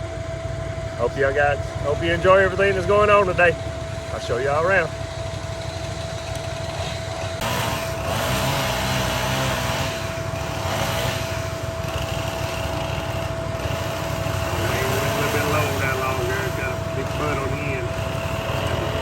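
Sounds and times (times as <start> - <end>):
small engine running: 0.0 - 19.0
thin steady whine: 0.0 - 19.0.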